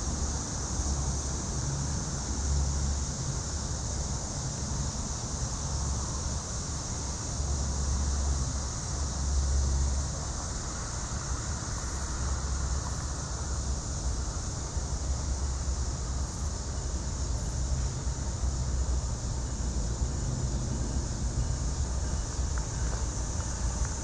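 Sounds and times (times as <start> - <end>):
train rolling past: 0.1 - 24.0.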